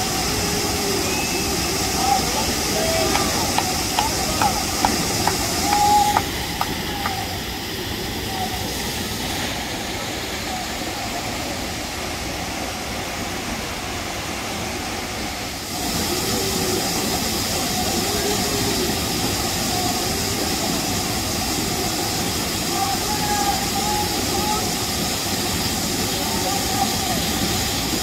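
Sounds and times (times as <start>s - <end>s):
faint voices: 0.0s - 13.8s, 15.3s - 28.0s
waterfall roaring: 0.0s - 28.0s.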